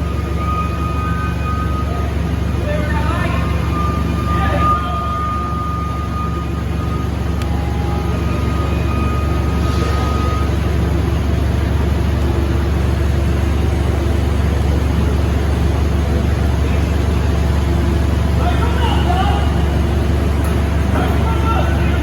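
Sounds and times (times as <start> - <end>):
machinery running: 0.0 - 22.0.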